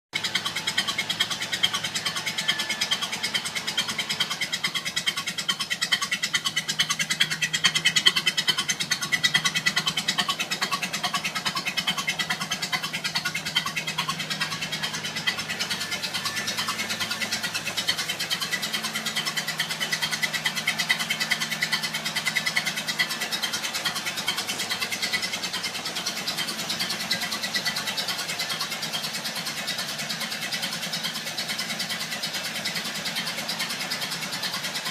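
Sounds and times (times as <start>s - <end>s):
car engine running: 0.1s - 34.9s.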